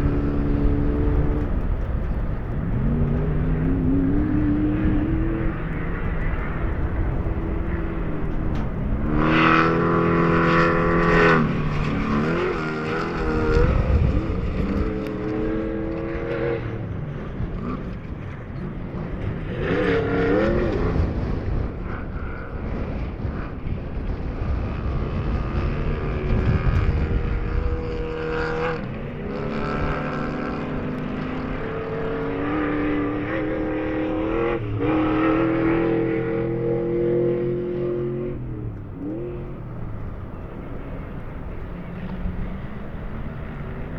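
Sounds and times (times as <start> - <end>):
race car engines revving: 0.0 - 43.9.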